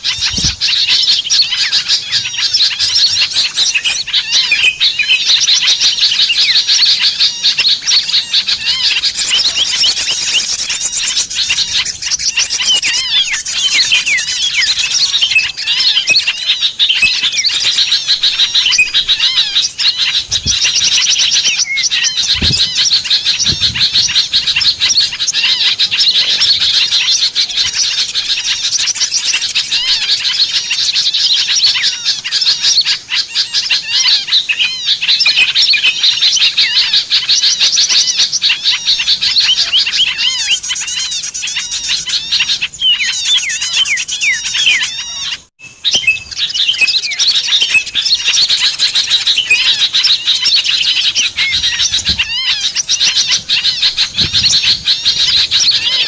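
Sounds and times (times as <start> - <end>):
songbirds chirping in chorus: 0.0 - 56.0.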